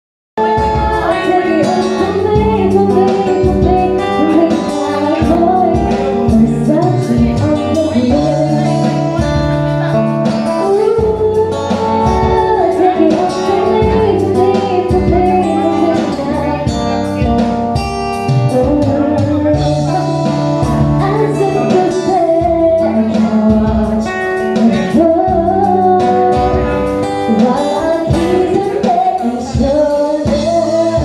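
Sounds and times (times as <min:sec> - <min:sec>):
person singing: 0:00.4 - 0:17.4, 0:18.2 - 0:31.0
band playing a song: 0:00.4 - 0:31.0.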